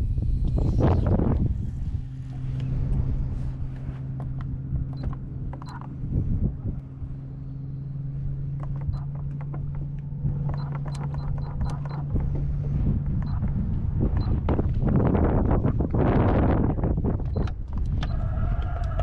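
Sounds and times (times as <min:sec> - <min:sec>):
electric trolling motor hum: 0:00.0 - 0:19.0
wind rumbling on microphone: 0:00.0 - 0:19.0.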